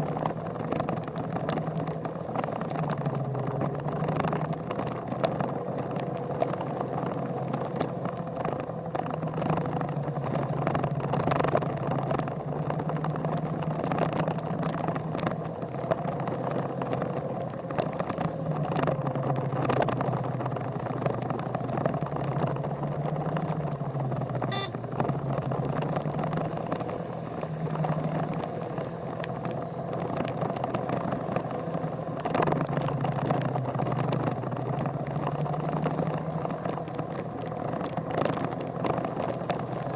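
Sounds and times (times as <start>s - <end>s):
vehicle engine running: 0.0s - 39.9s
light ticks: 0.1s - 39.9s.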